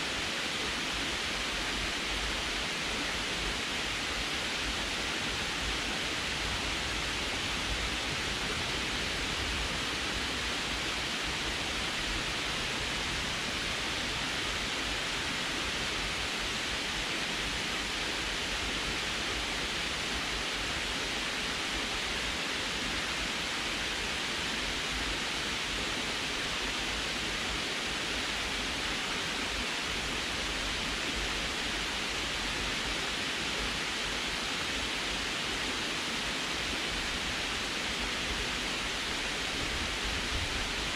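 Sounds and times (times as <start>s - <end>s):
water rushing over a dam: 0.0s - 40.9s.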